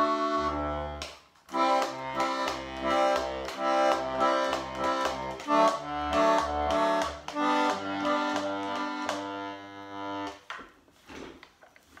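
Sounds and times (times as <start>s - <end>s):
button accordion playing a tune: 0.0s - 10.4s.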